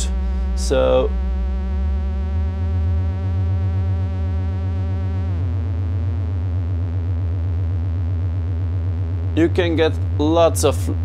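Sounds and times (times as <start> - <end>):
synthesizer drone: 0.0 - 11.0.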